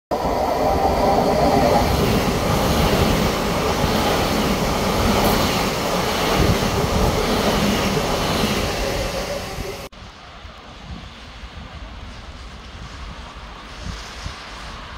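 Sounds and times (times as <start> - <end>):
train passing at speed: 0.1 - 14.9.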